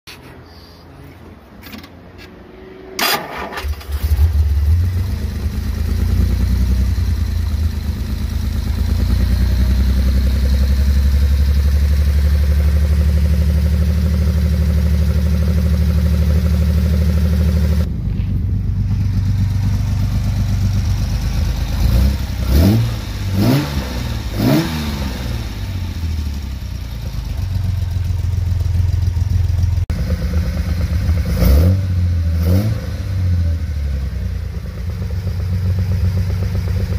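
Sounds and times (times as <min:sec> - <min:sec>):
engine revving: 0:02.7 - 0:17.9, 0:19.1 - 0:27.8, 0:29.9 - 0:36.9
car engine cranking and running: 0:03.0 - 0:36.9.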